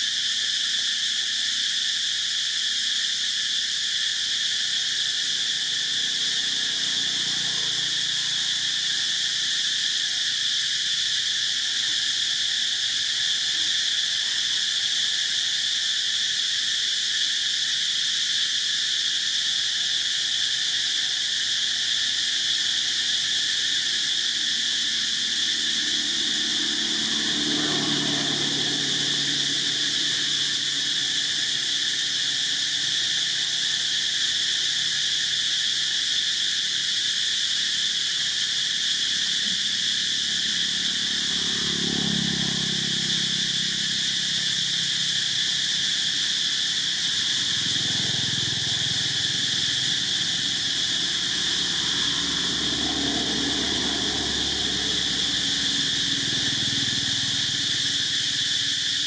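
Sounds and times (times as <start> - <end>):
chorus of insects droning: 0.0 - 59.0.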